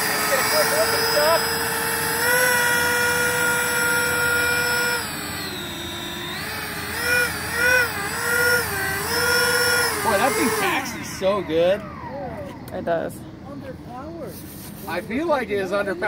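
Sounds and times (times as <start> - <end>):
electric fans whining: 0.0 - 16.0.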